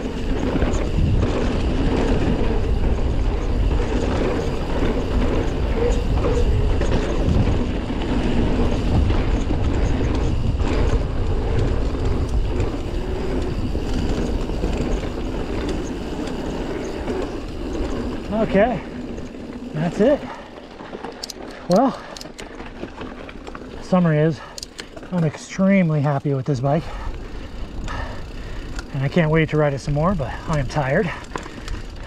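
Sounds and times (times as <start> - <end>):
bike rattling over bumps: 0.0 - 32.0
bike tyres rumbling on dirt: 0.0 - 32.0.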